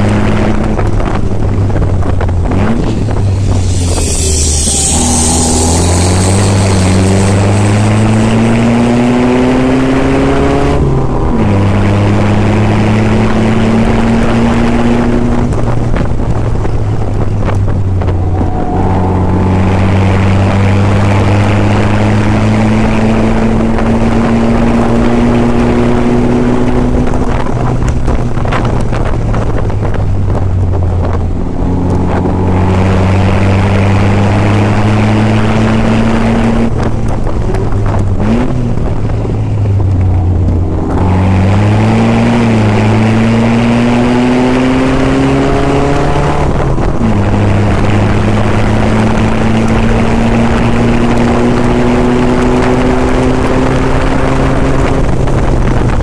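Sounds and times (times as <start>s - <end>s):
car engine revving: 0.0s - 56.0s
wind buffeting microphone: 0.0s - 56.0s.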